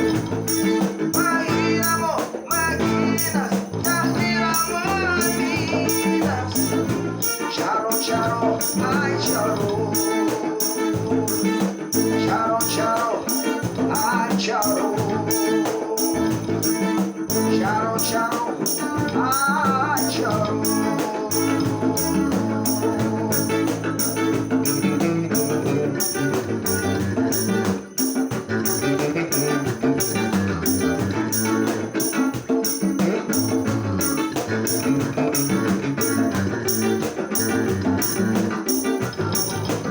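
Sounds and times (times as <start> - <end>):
guitar accompaniment: 0.0 - 39.9
person singing: 0.0 - 39.9
shaken percussion beat: 0.0 - 39.9
wavering melody line: 0.0 - 39.9.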